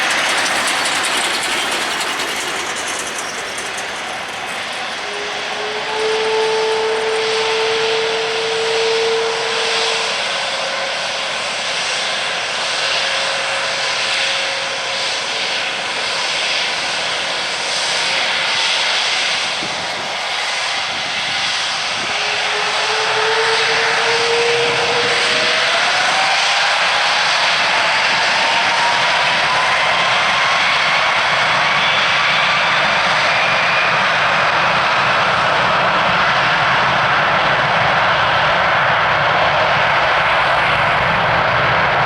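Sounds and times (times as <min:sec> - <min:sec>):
jet engine whine: 0:00.0 - 0:42.0
jet engines rushing: 0:00.0 - 0:42.0.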